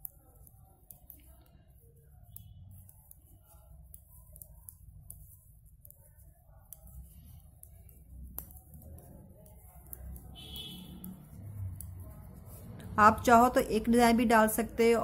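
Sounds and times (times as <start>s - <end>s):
knitting needles clicking: 0.0s - 15.0s.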